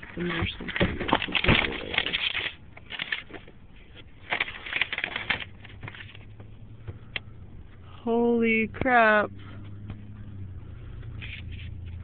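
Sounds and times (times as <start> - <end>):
rustling and clattering objects: 0.0 - 7.8, 9.4 - 12.0.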